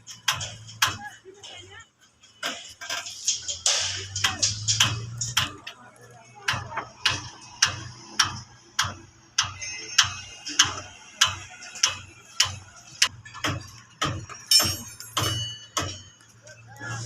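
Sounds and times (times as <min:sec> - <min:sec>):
hand hammer striking: 0:00.1 - 0:01.1, 0:02.4 - 0:05.8, 0:06.5 - 0:16.2.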